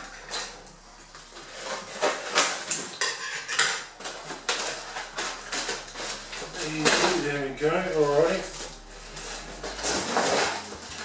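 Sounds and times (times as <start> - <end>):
packing tape ripping: 0.0 - 11.0.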